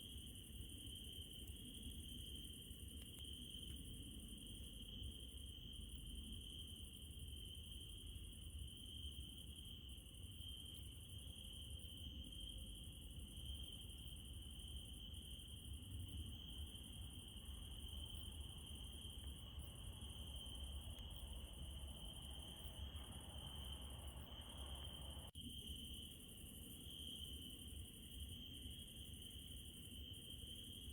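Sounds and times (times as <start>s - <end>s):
crickets trilling: 0.0s - 30.9s
high insect hiss: 0.0s - 30.9s.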